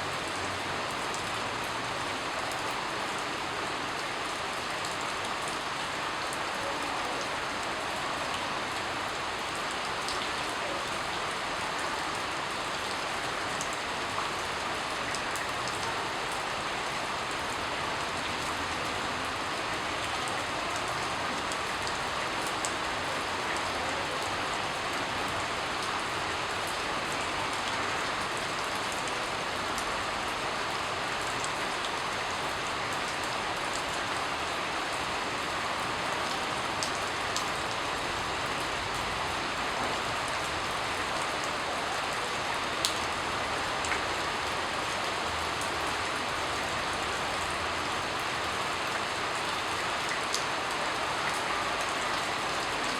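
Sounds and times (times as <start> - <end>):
sharp ticks of raindrops: 0.0 - 52.9
steady rain hiss: 0.0 - 52.9.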